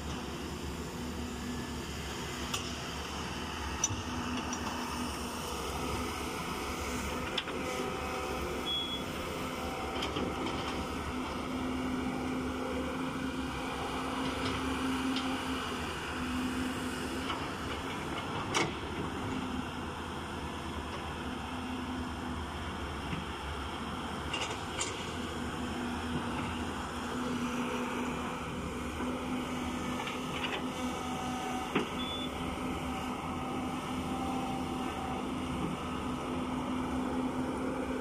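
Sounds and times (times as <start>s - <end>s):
excavator diesel engines: 0.0s - 38.0s.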